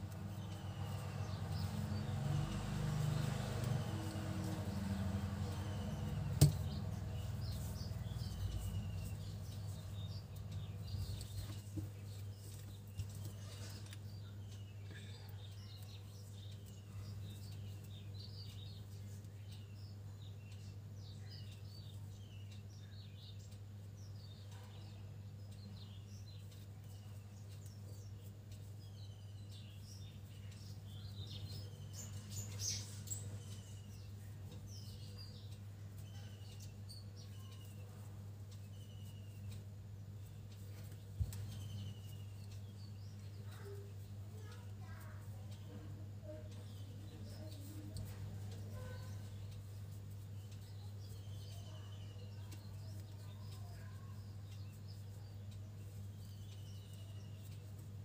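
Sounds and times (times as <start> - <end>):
faint bird chirps: 0.0 - 58.0
steady low hum: 0.0 - 58.0.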